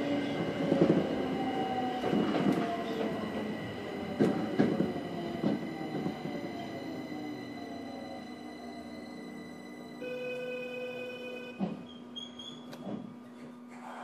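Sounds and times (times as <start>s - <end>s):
train motor whine: 0.0s - 13.1s.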